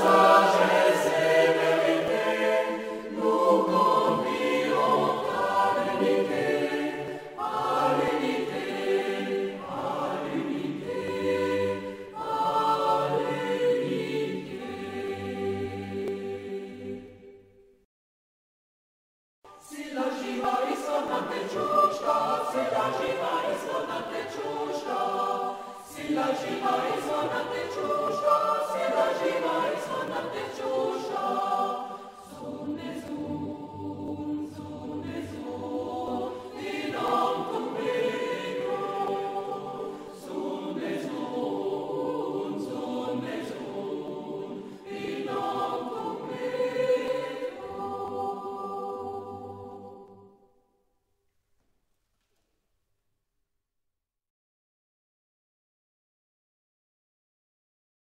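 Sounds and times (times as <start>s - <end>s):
choir singing slowly: 0.0s - 17.7s, 19.5s - 50.8s.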